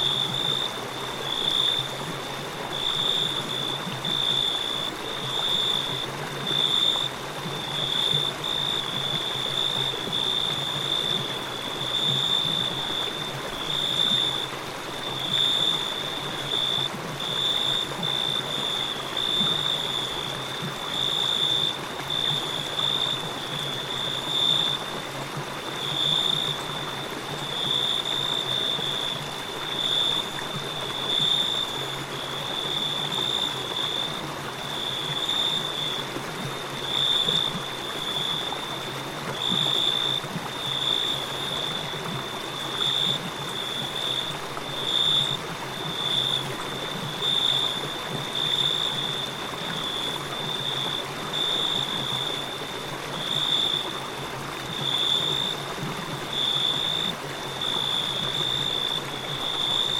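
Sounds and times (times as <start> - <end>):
crickets chirping: 0.0 - 59.9
river flowing: 0.0 - 59.9.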